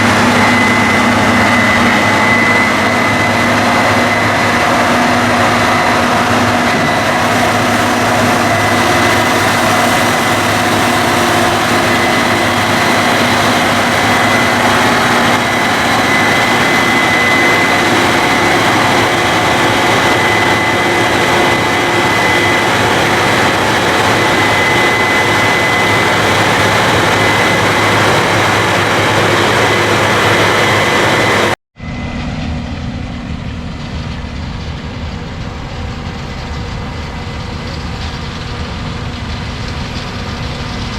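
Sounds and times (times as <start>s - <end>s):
combine harvester running: 0.0s - 40.9s
high steady machine whine: 0.0s - 40.9s.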